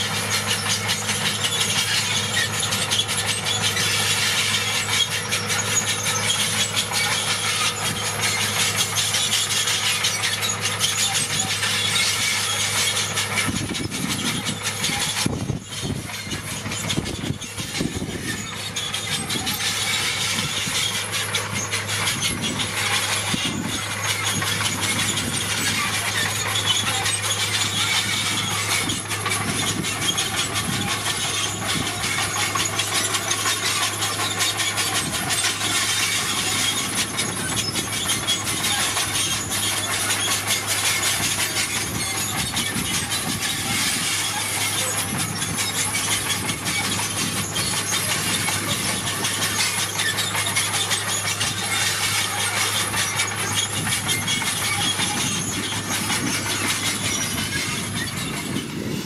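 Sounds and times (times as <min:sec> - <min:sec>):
diesel engine running: 0:00.0 - 0:59.0
metal tracks clattering: 0:00.0 - 0:59.0.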